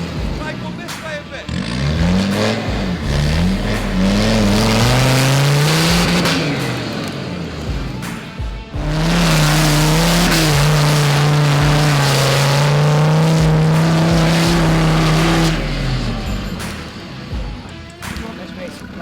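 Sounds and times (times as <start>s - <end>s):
off-road engine at high revs: 0.0s - 19.0s.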